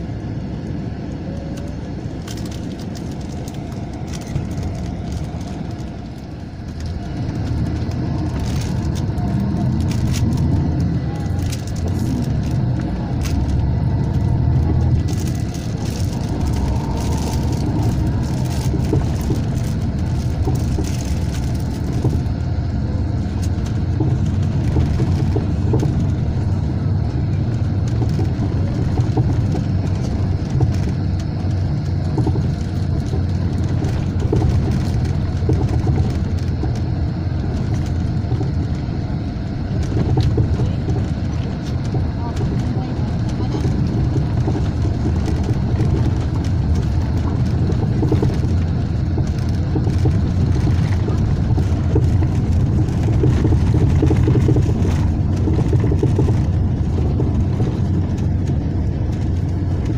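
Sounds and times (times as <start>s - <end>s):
coach engine and road rumble: 0.0s - 59.9s.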